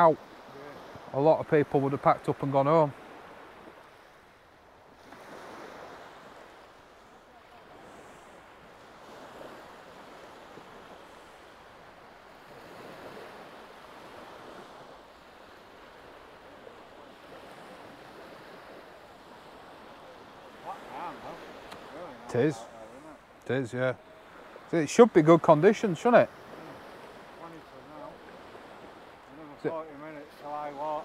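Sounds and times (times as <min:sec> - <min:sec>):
sea waves washing onto shore: 0:00.0 - 0:31.0.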